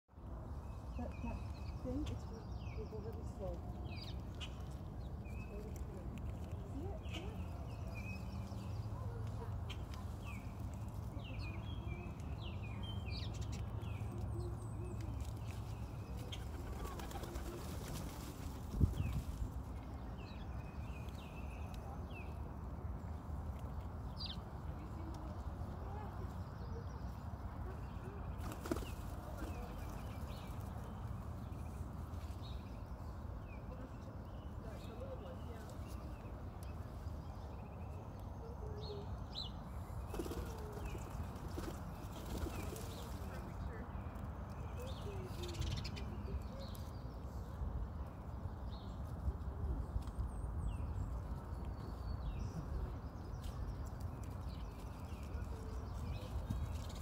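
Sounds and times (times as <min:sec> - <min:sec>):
small birds chirping: 0:00.1 - 0:57.0.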